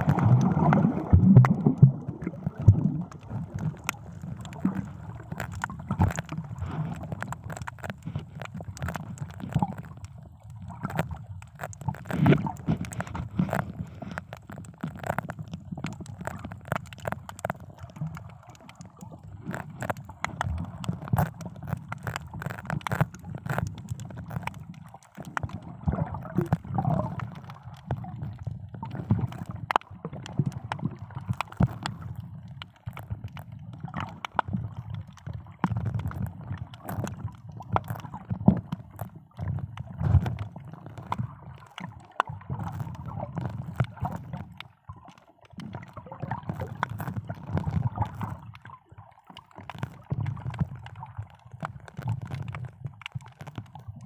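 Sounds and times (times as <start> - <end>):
clicks and crackles: 0.0 - 54.0
muffled underwater sloshing: 0.0 - 54.0.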